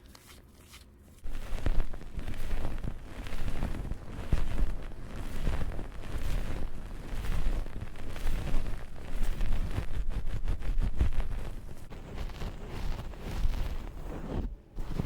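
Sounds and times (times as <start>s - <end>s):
rubbing on microphone: 0.2s - 15.0s.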